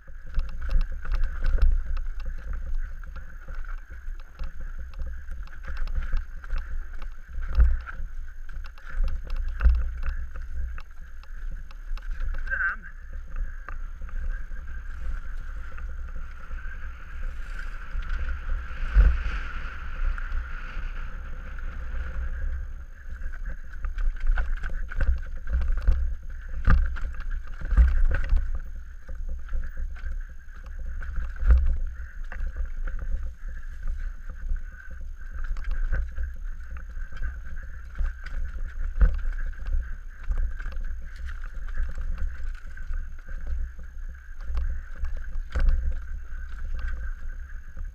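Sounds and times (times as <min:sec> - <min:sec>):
bike rumbling over rocky trail: 0:00.0 - 0:47.9
wheels knocking and rattling: 0:00.0 - 0:47.9
steady high hum: 0:02.0 - 0:47.9.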